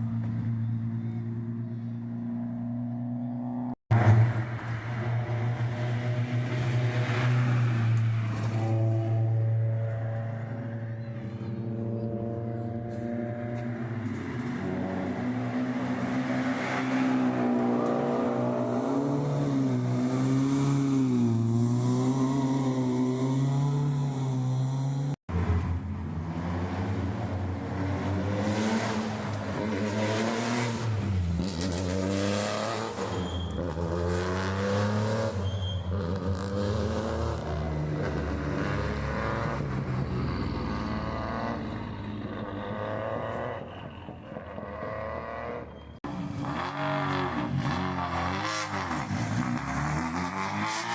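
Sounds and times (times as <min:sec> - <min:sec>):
rally car engine at full throttle: 0:03.9 - 0:50.9.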